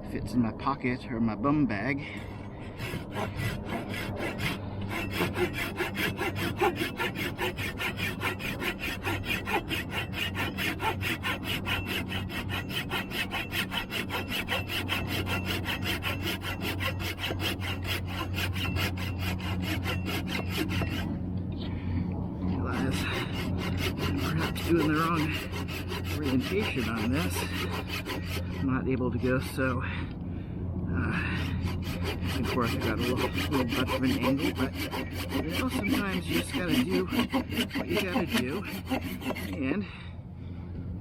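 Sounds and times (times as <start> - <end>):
pull saw cutting wood: 2.6 - 21.1, 22.5 - 29.8, 31.1 - 39.8.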